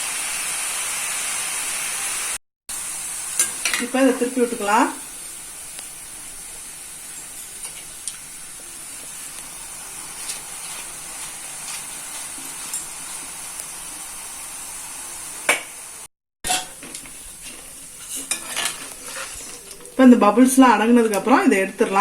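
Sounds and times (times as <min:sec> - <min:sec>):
deep-frying sizzle in hot oil: 0:00.0 - 0:22.0.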